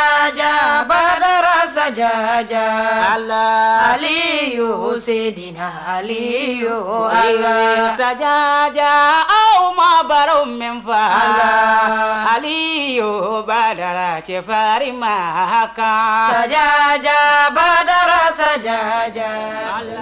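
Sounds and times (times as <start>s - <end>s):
person chanting unaccompanied: 0.0s - 20.0s.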